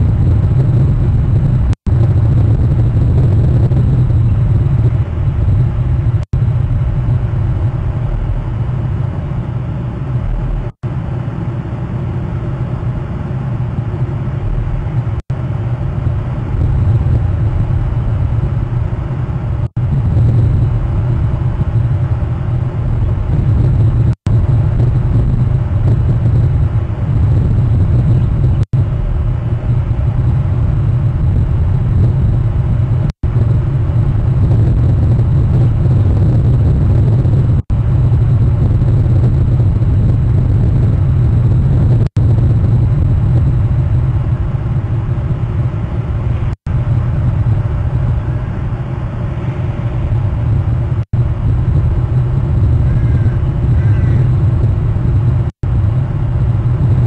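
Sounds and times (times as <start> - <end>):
loud low rumble: 0.0 - 57.0.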